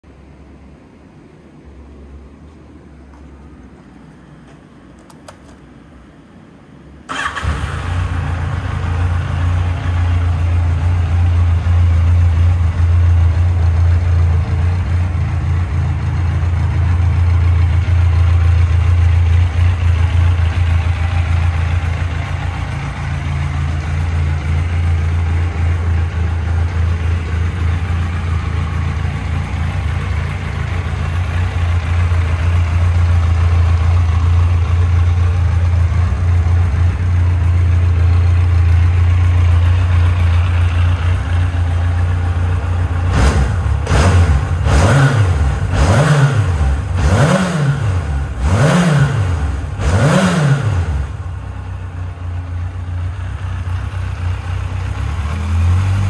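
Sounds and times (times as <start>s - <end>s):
motorcycle engine starting and idling: 4.4s - 5.8s, 7.0s - 56.0s.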